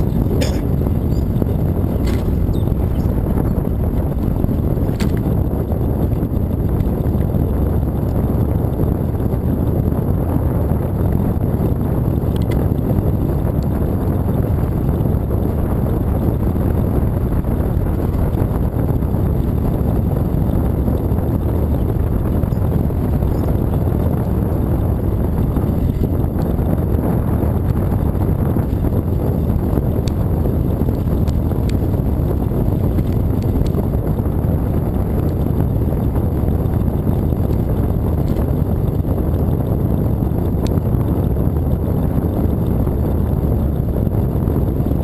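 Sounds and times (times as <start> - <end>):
tyres rumbling on trail: 0.0 - 45.0
wind buffeting microphone: 0.0 - 45.0.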